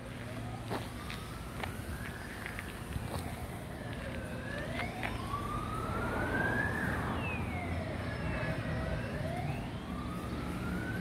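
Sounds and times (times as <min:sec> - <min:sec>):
emergency vehicle siren wailing: 0:00.0 - 0:11.0
street noise rumble: 0:00.0 - 0:11.0.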